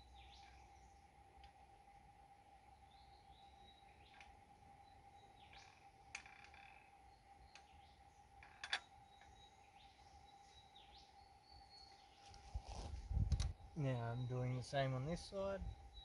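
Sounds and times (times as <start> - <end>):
faint steady tone: 0.0 - 12.5, 13.2 - 16.0
faint bird chirps: 2.6 - 16.0.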